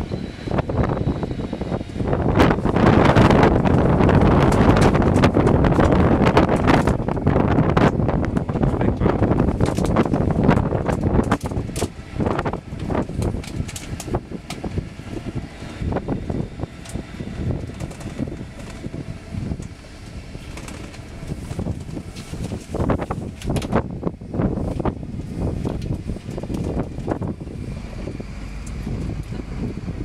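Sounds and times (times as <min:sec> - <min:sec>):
bus running: 0:00.0 - 0:30.0
wind buffeting microphone: 0:00.0 - 0:30.0.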